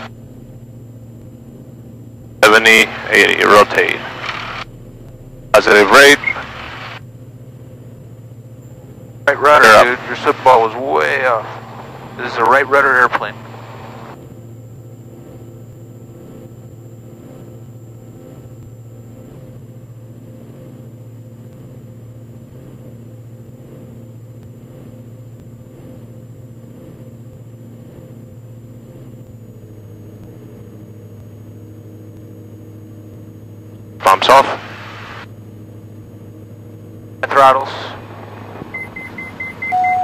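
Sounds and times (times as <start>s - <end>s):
aircraft engines droning: 0.0s - 40.0s.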